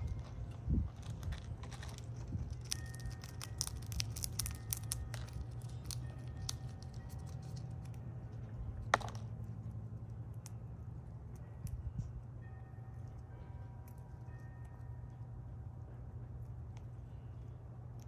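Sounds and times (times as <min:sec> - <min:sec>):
low hum: 0:00.0 - 0:18.0
squirrel gnawing and cracking food: 0:00.0 - 0:18.0.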